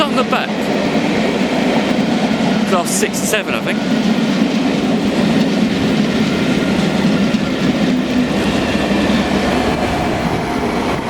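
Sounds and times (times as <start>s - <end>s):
diesel locomotive passing: 0.0s - 11.0s
train wheels clattering on rails: 0.0s - 11.0s.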